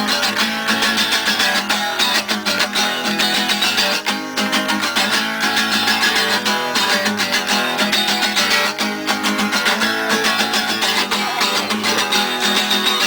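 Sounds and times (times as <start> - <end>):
guitar strummed fast: 0.0 - 13.0.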